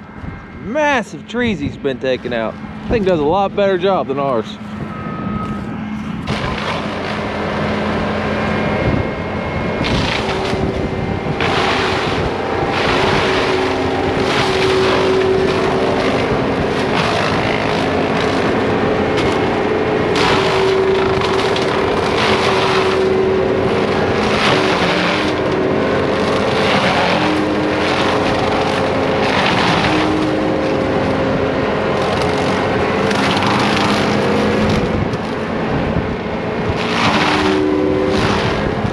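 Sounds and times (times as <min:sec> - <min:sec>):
engine tone under load: 0:00.0 - 0:38.9
mulcher grinding and chipping wood: 0:00.0 - 0:38.9.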